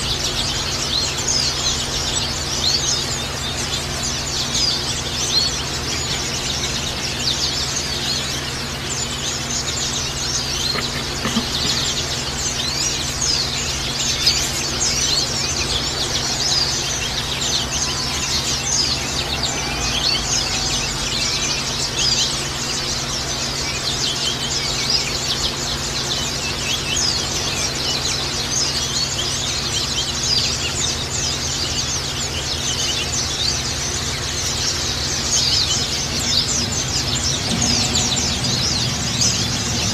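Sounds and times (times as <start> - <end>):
birds chirping and twittering: 0.0 - 39.9
steady low hum: 0.0 - 39.9.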